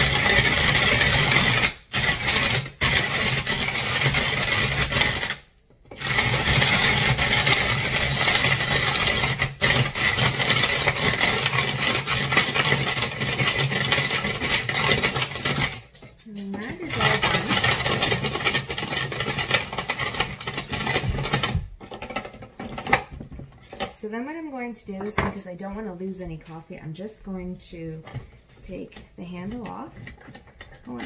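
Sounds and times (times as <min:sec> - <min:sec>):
hand grinder grinding coffee beans: 0:00.0 - 0:24.0, 0:27.6 - 0:31.0.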